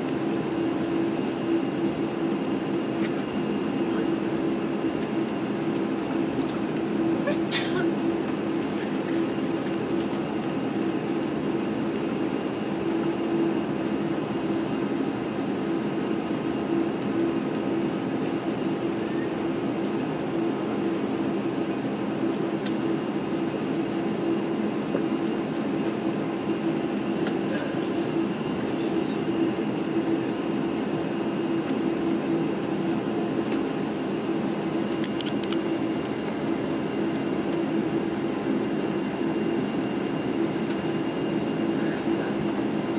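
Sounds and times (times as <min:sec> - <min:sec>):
aircraft cabin hum: 0:00.0 - 0:42.9
jet engines at low power: 0:00.0 - 0:42.9.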